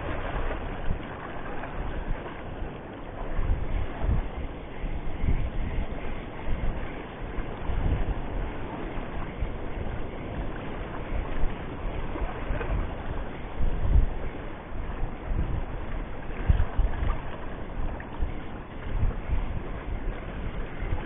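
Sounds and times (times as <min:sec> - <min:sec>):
sea surf on rocks: 0:00.0 - 0:21.0
wind buffeting microphone: 0:00.0 - 0:21.0.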